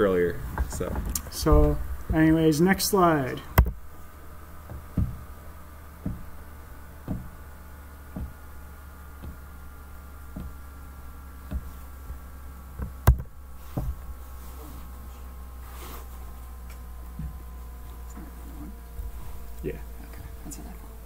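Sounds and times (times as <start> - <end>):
soft low knocks: 0.0 - 2.4, 3.5 - 15.5, 16.3 - 21.0
steady low hum: 0.0 - 21.0.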